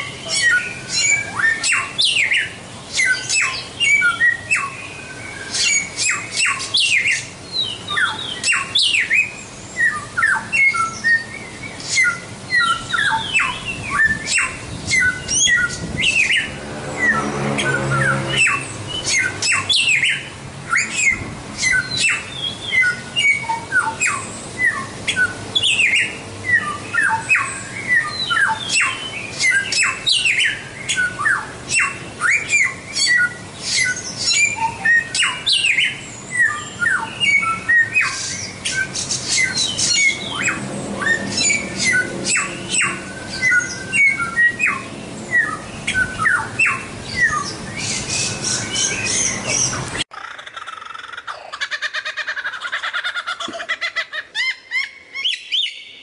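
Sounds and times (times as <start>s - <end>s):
songbird singing varied chirps: 0.0s - 56.0s.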